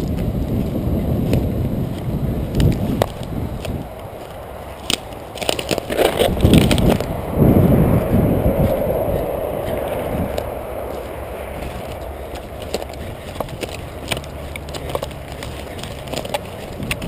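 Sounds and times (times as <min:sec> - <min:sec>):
twigs snapping underfoot: 0:00.0 - 0:07.3, 0:08.0 - 0:17.0
running footsteps through long grass: 0:00.0 - 0:17.0.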